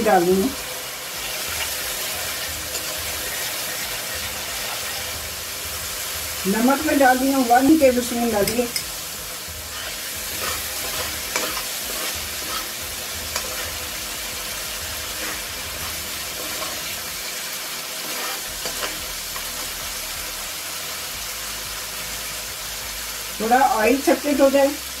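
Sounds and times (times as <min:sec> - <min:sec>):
paste sizzling in hot oil: 0:00.0 - 0:25.0.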